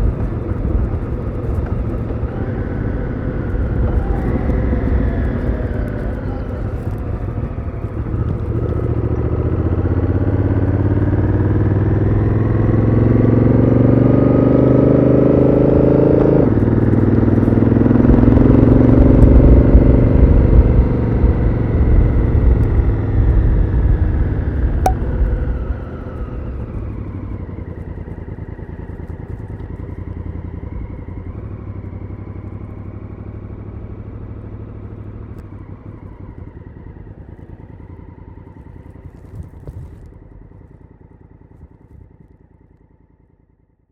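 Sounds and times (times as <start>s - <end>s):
motorcycle engine accelerating: 0.0s - 43.2s.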